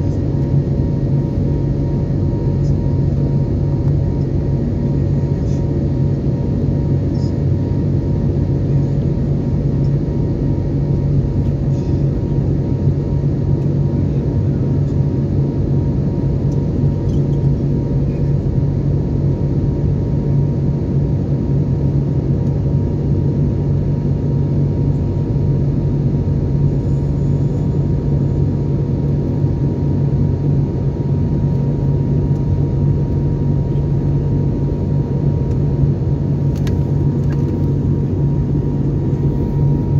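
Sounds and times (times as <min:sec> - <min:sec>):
faint steady hum: 0:00.0 - 0:39.9
jet engine and airflow rumble: 0:00.0 - 0:39.9.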